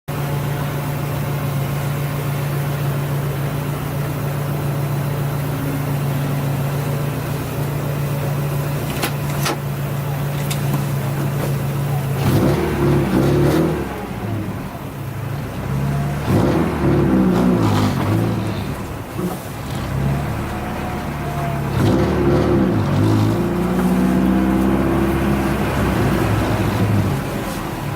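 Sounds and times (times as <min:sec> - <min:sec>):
car engine revving: 0:00.5 - 0:27.9.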